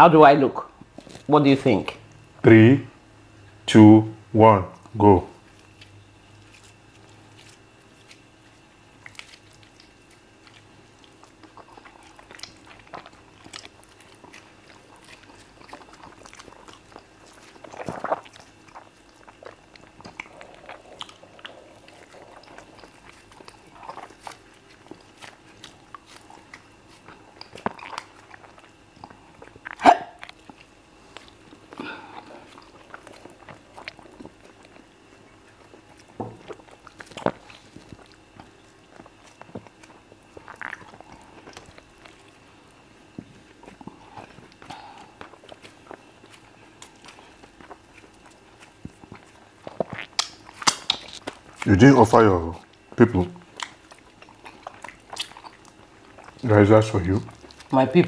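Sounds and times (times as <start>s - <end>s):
faint steady hum: 0.0s - 58.0s
chewing and wet mouth sounds: 4.7s - 58.0s.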